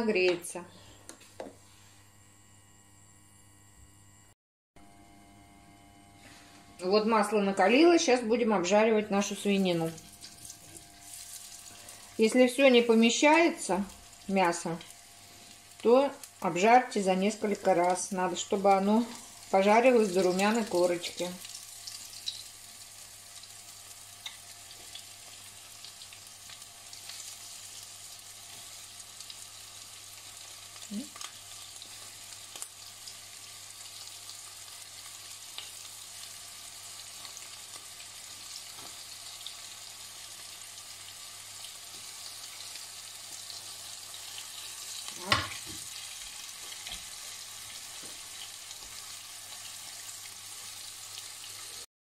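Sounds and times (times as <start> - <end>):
meat sizzling in oil: 9.1 - 51.9.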